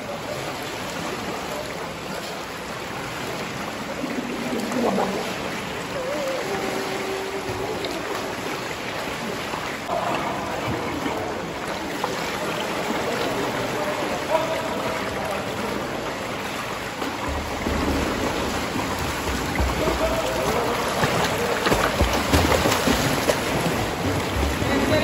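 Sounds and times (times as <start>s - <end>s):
water splashing and churning: 0.0s - 25.0s.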